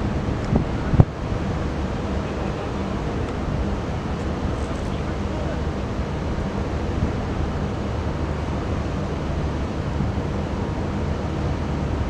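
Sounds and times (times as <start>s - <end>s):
diesel engines droning: 0.0s - 12.0s
water wash: 0.0s - 12.0s.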